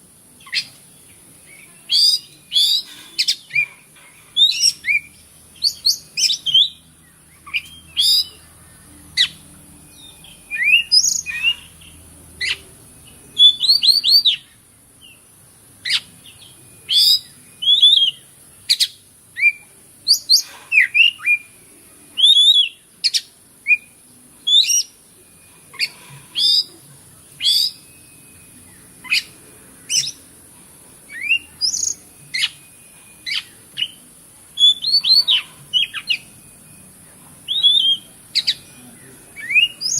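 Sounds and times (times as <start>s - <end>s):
magpie-robin singing: 0.4s - 30.4s, 31.0s - 39.9s.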